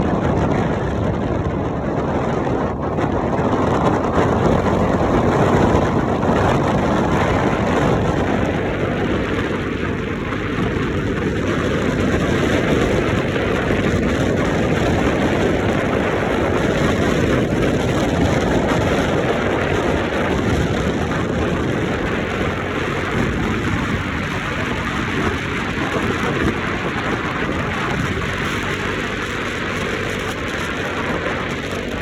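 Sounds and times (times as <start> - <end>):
wind and surf rushing: 0.0 - 32.0.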